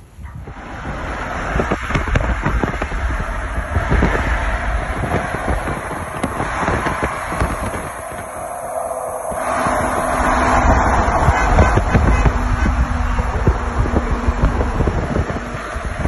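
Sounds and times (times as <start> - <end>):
low wind thuds: 0.0 - 16.0
road noise: 0.0 - 16.0
wind buffeting microphone: 0.0 - 16.0.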